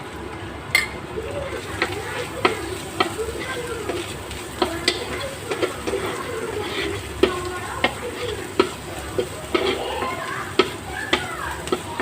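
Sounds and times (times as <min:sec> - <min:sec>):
spices sizzling in oil: 0:00.0 - 0:12.0
spatula knocking against pan: 0:01.8 - 0:12.0.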